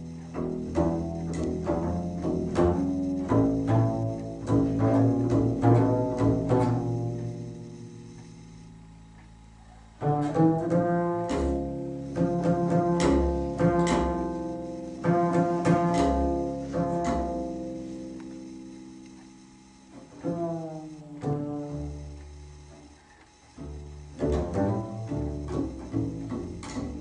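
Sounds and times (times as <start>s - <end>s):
double bass playing: 0.0s - 27.0s.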